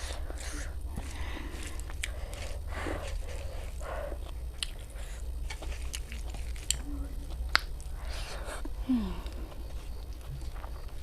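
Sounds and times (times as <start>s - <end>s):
person chewing with wet smacks: 0.0s - 11.0s
steady low hum: 0.0s - 11.0s.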